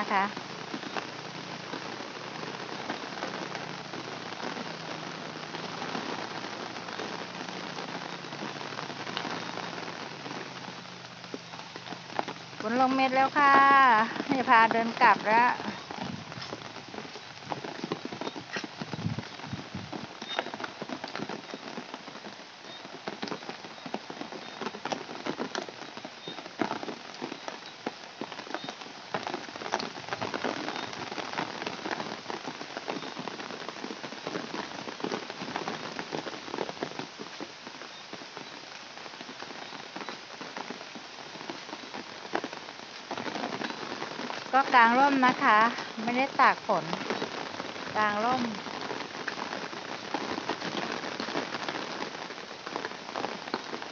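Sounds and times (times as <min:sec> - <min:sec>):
raindrops tapping on umbrella: 0:00.0 - 0:53.9
steady rain falling: 0:00.0 - 0:53.9.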